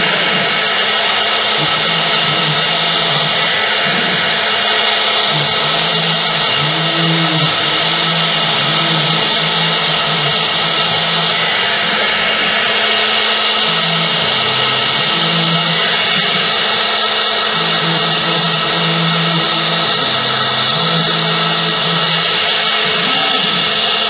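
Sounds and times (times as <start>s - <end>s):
low machine hum: 0.0s - 24.0s
router spindle high whine: 0.0s - 24.0s.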